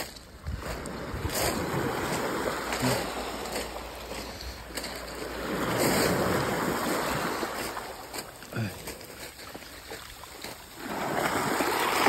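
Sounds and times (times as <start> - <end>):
waves washing up pebble beach: 0.6 - 8.6, 10.0 - 12.0.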